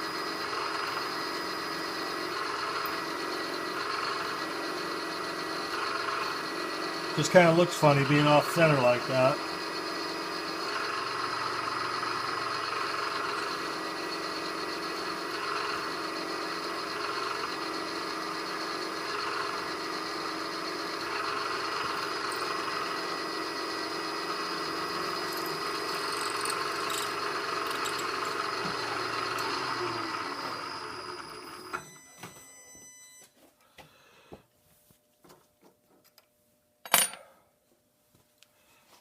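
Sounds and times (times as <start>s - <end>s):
machine tool whining: 0.0s - 32.5s.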